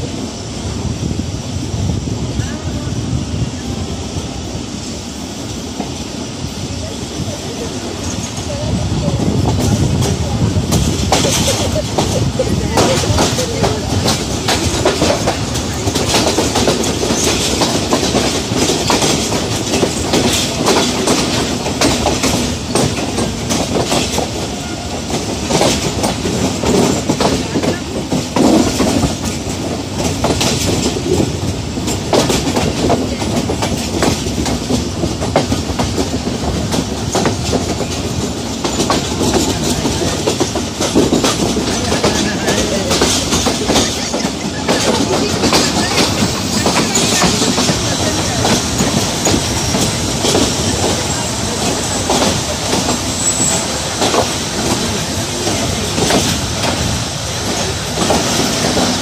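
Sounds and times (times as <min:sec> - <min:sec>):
track clacks: 0:00.0 - 0:59.0
train wheels rumbling on rails: 0:00.0 - 0:59.0.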